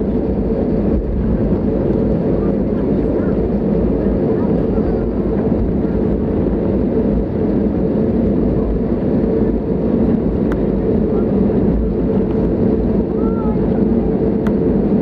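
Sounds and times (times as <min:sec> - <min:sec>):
aircraft cabin drone while taxiing: 0:00.0 - 0:15.0.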